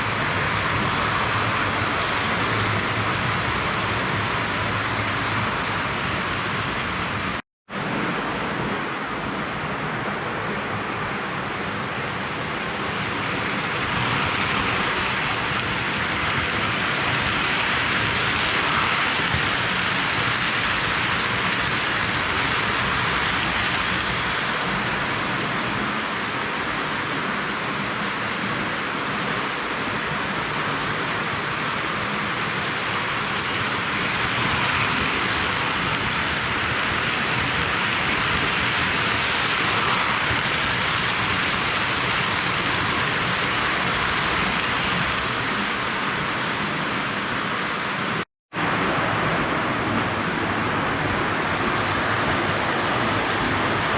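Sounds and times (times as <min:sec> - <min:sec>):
toy train wheels rumbling on rails: 0:00.0 - 0:07.4, 0:11.4 - 0:48.1, 0:51.4 - 0:53.9.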